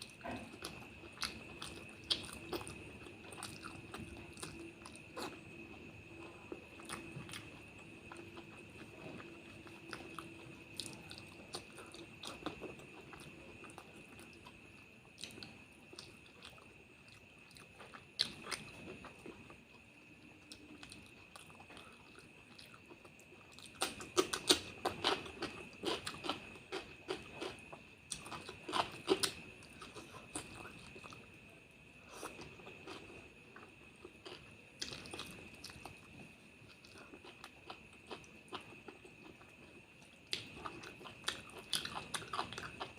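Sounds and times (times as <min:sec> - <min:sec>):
person chewing food: 0:00.0 - 0:31.4, 0:32.0 - 0:42.9
faint high-pitched whine: 0:00.0 - 0:42.9.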